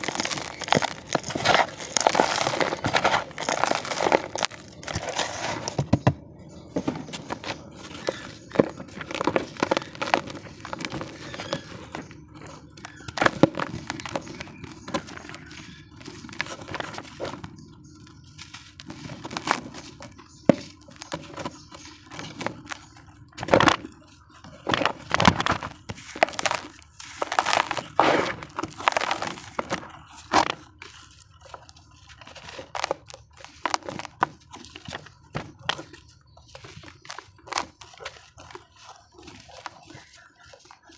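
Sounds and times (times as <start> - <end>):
cement crumbling by hand: 0.0 - 17.9, 18.7 - 38.8.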